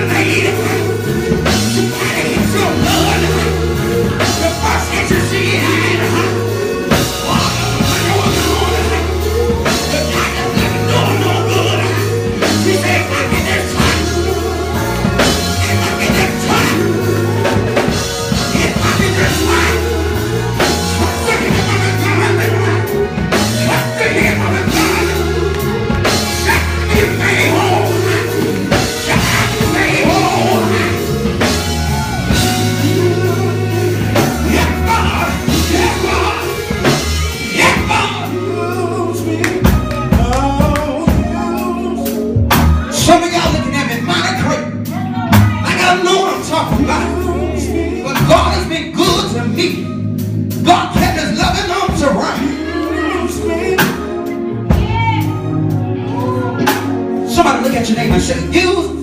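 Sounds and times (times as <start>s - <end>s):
gospel singing with band: 0.0s - 59.0s.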